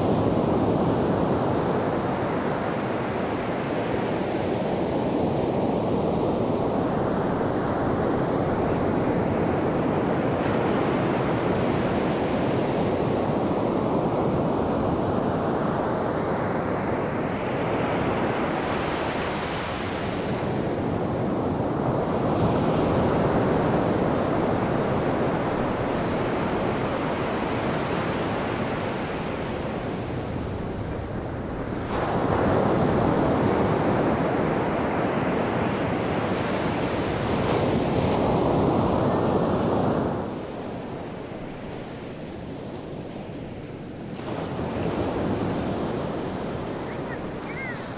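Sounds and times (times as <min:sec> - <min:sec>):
waves breaking on sand: 0:00.0 - 0:47.9.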